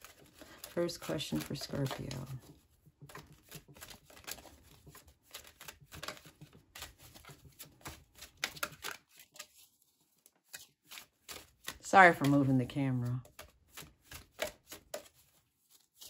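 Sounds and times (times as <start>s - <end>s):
cards being shuffled: 0.0s - 16.0s.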